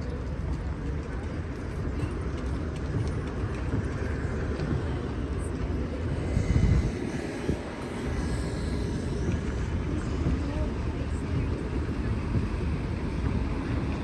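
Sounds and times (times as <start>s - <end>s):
road noise rumble: 0.0s - 14.0s.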